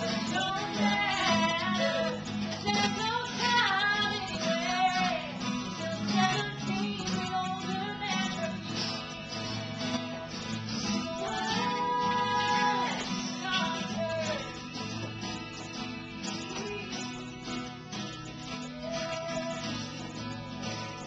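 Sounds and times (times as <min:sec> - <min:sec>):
woman singing: 0:00.0 - 0:18.0, 0:18.6 - 0:20.7
acoustic guitar: 0:00.0 - 0:21.0.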